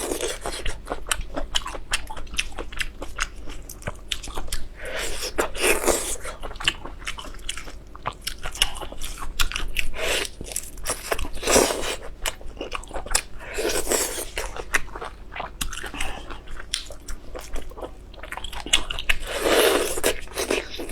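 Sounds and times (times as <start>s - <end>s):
person chewing and crunching: 0.0s - 20.9s.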